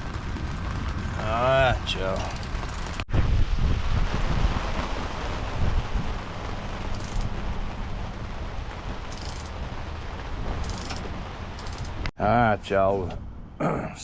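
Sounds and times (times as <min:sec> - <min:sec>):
strong storm wind buffeting microphone: 0:00.0 - 0:12.1.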